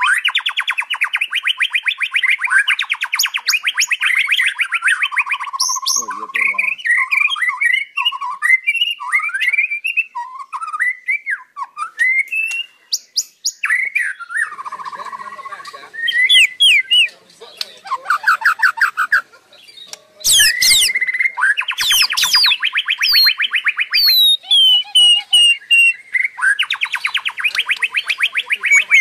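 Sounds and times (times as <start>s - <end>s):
songbird singing trills and whistles: 0.0s - 29.0s.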